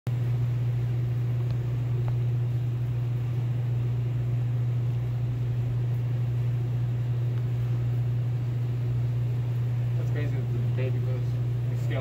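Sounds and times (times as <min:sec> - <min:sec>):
low mechanical hum: 0:00.1 - 0:12.0.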